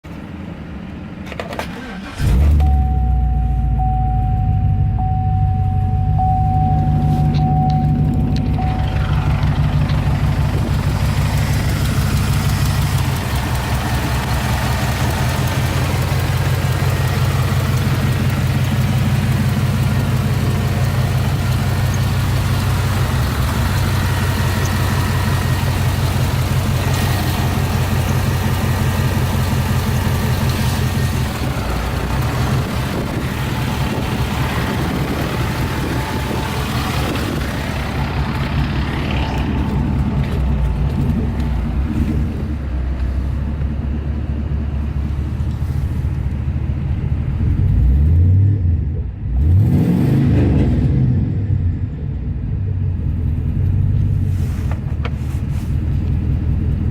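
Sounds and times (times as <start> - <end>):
truck engine idling: 1.8 - 47.8, 52.8 - 56.9.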